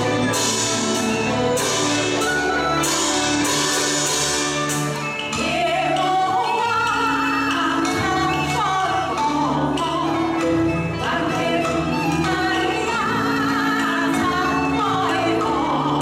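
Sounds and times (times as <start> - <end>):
percussion beat: 0.0 - 16.0
pitched instruments: 0.0 - 16.0.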